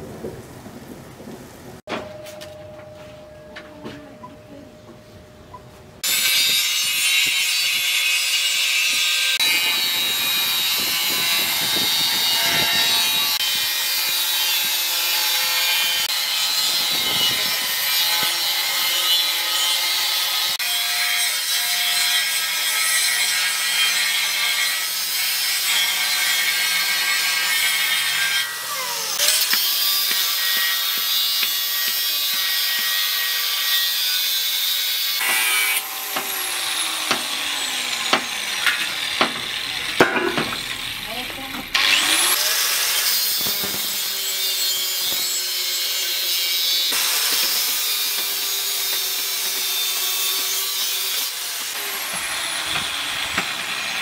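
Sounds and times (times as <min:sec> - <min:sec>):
angle grinder cutting metal: 0:06.0 - 0:54.0.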